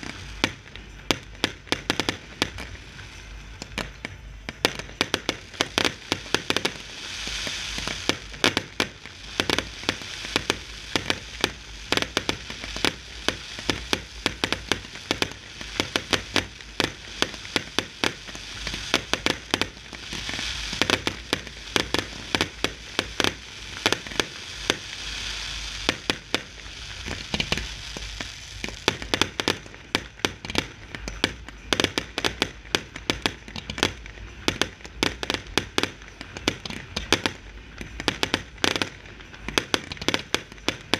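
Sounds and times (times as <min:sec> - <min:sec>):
fireworks bangs and cracks: 0:00.0 - 0:40.9
hiss of spark fountains: 0:00.0 - 0:40.9.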